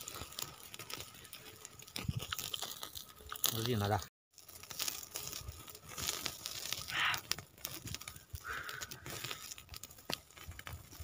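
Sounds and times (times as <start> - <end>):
rustling and tearing food: 0.0 - 3.8, 4.4 - 11.0
small crackles: 0.0 - 11.0.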